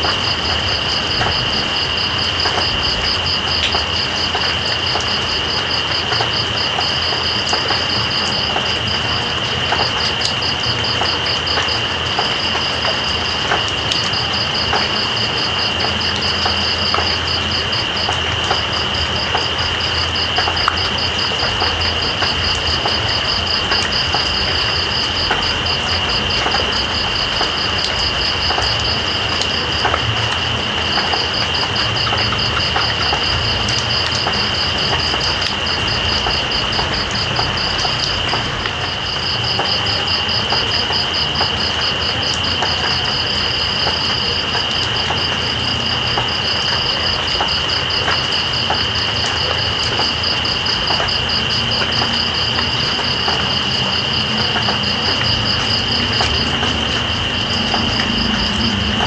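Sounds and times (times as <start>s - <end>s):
cricket high whine: 0.0s - 59.0s
steady rain: 0.0s - 59.0s.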